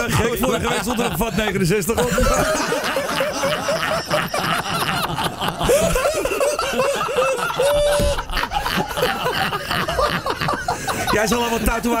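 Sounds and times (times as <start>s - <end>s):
men laughing: 0.0s - 12.0s.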